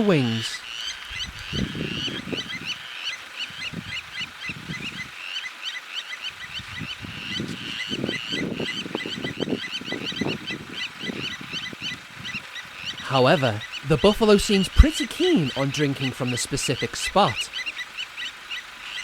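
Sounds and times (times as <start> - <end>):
metallic bird alarm calls: 0.0 - 19.0.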